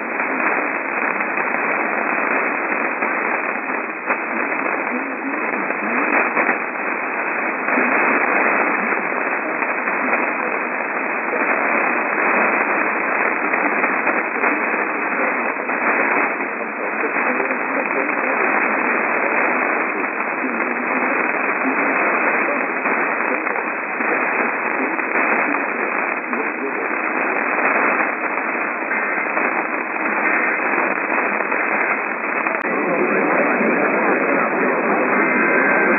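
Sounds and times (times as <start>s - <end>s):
radio static: 0.0s - 35.9s.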